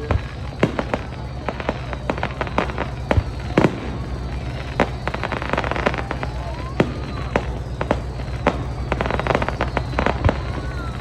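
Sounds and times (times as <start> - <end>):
fireworks bangs and pops: 0.0 - 11.0
fireworks crackling: 0.0 - 11.0.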